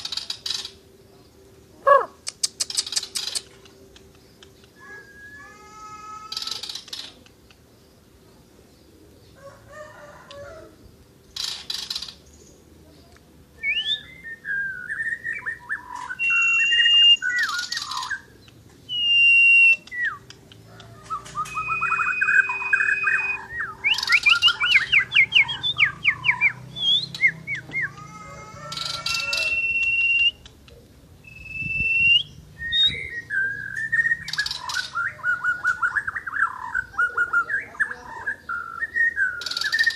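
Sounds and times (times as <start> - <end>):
songbird singing: 0.0 - 39.9
harsh rasping bird calls: 1.8 - 8.2, 8.9 - 12.7, 14.9 - 31.6, 32.2 - 39.9.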